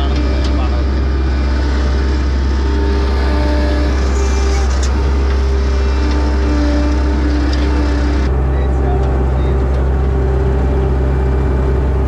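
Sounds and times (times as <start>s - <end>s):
combine harvester engine humming: 0.0s - 12.0s
machinery whining tones: 0.0s - 12.0s.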